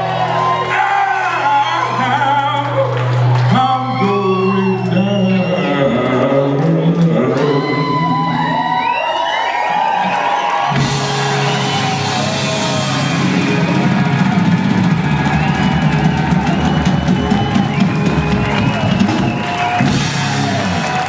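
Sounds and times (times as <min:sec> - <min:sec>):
live blues band: 0:00.0 - 0:08.8, 0:09.9 - 0:21.0
audience cheering and whooping: 0:00.0 - 0:21.0.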